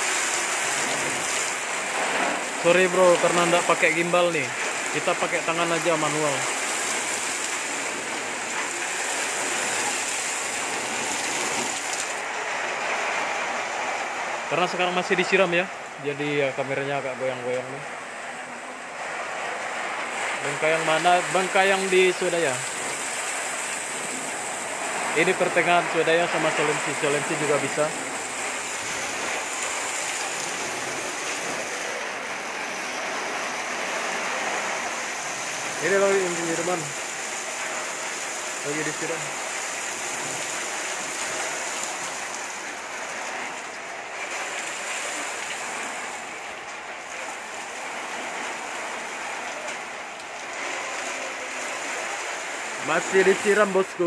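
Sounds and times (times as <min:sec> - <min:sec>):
hose water jet hissing: 0:00.0 - 0:54.0.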